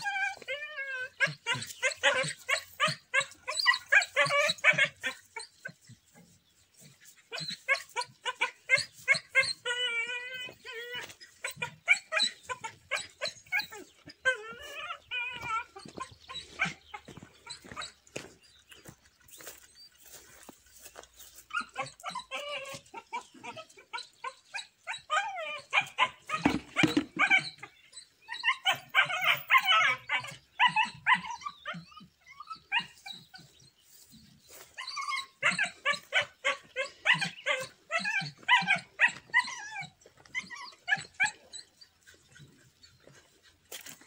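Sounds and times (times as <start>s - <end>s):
dogs barking and yelping: 0.0s - 44.0s.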